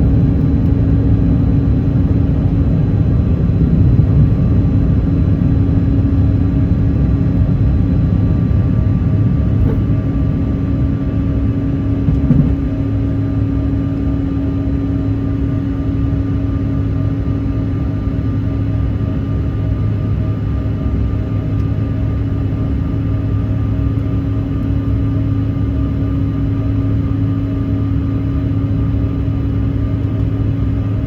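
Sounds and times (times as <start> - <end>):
airliner engine rumble in cabin: 0.0 - 31.0.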